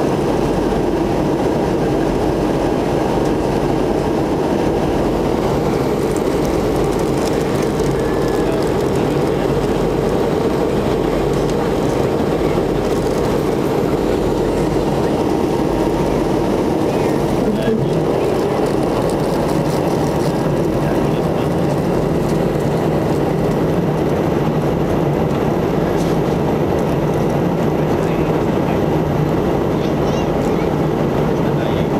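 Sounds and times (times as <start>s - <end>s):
jet engine drone in cabin: 0.0s - 31.9s
rush of airflow: 0.0s - 31.9s.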